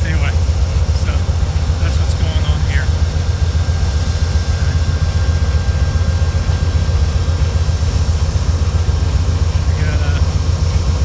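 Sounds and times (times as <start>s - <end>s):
diesel locomotive rumbling: 0.0s - 11.0s.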